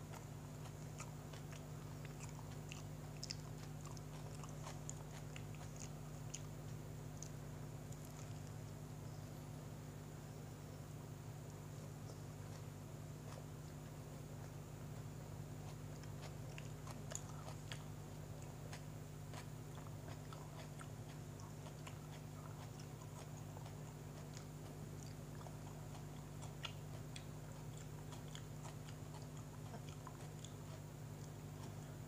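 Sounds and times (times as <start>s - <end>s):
person chewing: 0.0s - 8.7s, 11.5s - 32.0s
steady low hum: 0.0s - 32.0s.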